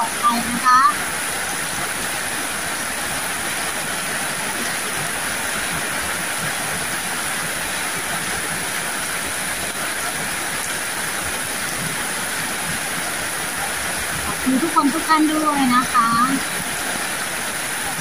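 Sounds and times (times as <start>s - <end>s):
heavy rain on concrete: 0.0s - 18.0s.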